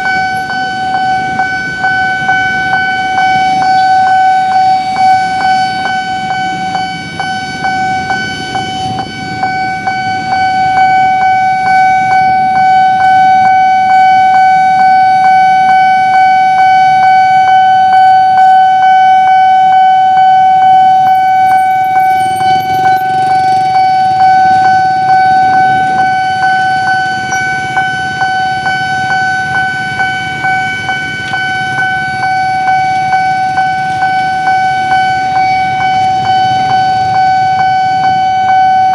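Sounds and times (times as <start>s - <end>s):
train rumbling past: 0.0s - 13.4s, 20.3s - 38.9s
level crossing warning alarm: 0.0s - 38.9s.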